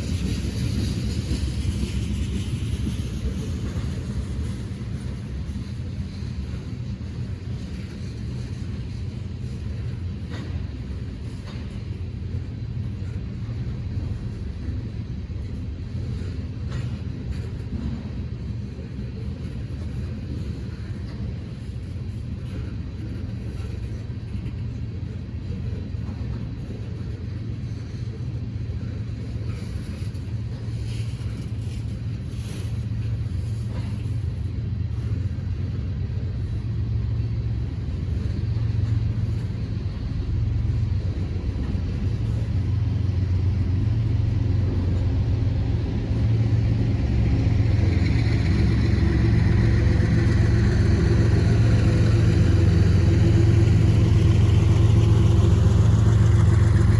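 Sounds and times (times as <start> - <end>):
diesel train engine rumble: 0.0 - 56.9.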